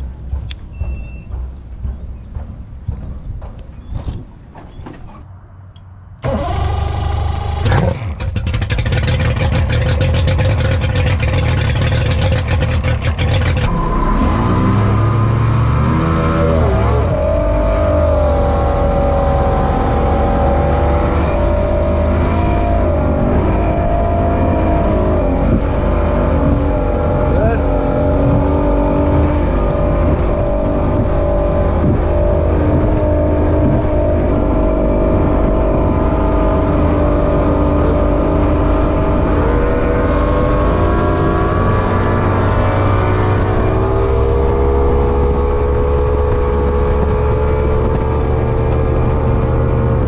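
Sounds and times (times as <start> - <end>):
outboard motor running: 6.2 - 50.0.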